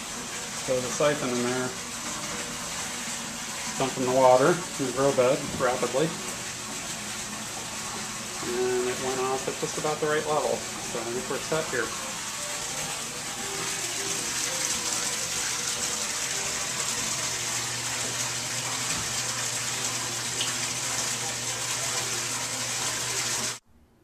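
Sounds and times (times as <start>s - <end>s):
water pouring into tank: 0.0s - 23.6s.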